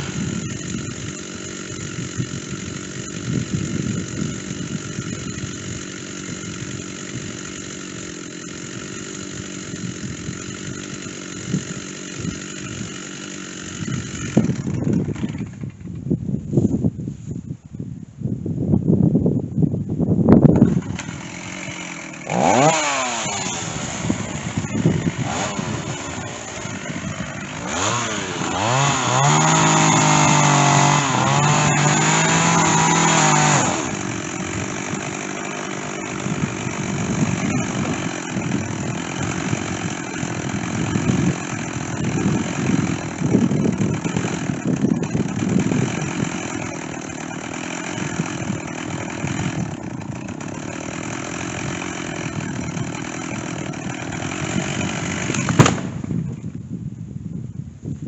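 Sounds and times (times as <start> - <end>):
chainsaw engine revving: 0.0 - 16.1, 20.5 - 56.6.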